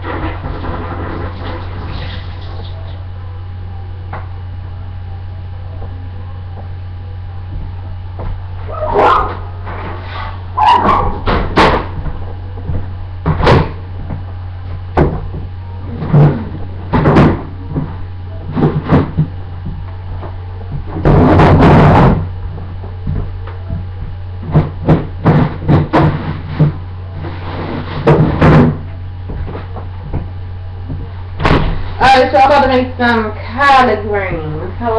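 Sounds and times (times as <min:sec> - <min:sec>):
low hum: 0:00.0 - 0:34.9.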